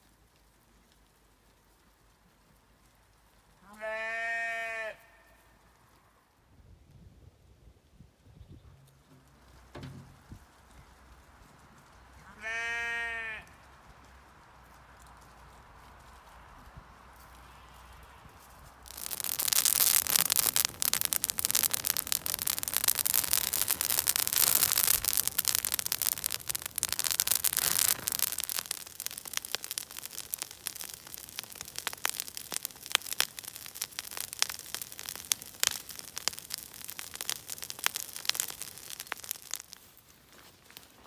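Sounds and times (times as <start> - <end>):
branches burning crackling: 0.0 - 5.0, 8.9 - 41.0.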